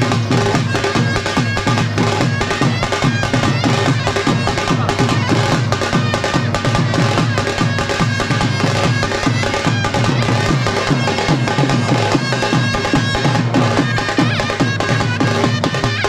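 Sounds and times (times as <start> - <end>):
frame drums beating fast rhythm: 0.0 - 16.0
held instrument tones: 0.0 - 16.0.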